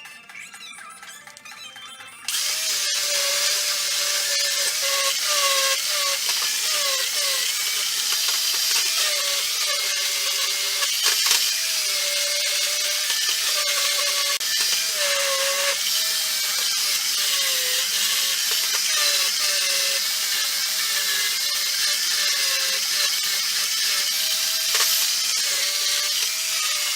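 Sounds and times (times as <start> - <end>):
power tool whining on metal: 2.3 - 26.9.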